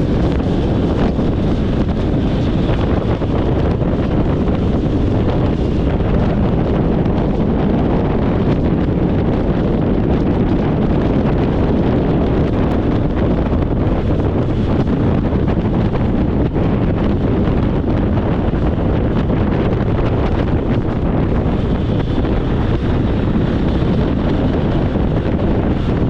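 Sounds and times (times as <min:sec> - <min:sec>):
motorcycle running: 0:00.0 - 0:26.0
wind buffeting microphone: 0:00.0 - 0:26.0.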